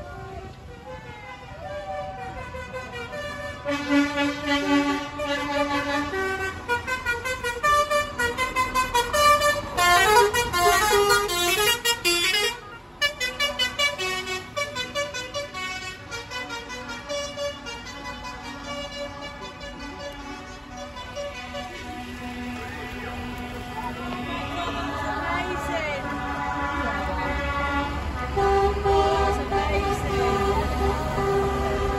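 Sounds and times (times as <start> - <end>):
horn-like tones: 0.0 - 31.9.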